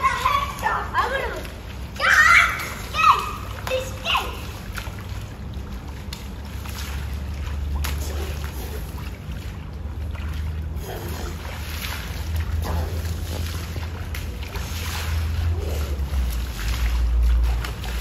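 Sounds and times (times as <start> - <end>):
feet splashing through shallow water: 0.0 - 18.0.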